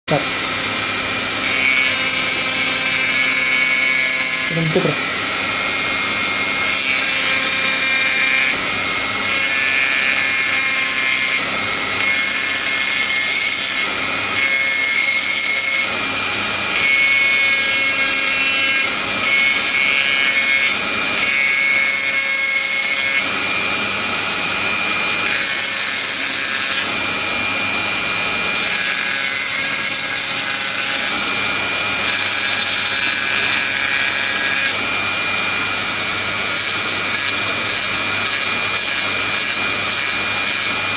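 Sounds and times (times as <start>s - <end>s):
rotary tool grinding glass: 1.3s - 40.9s.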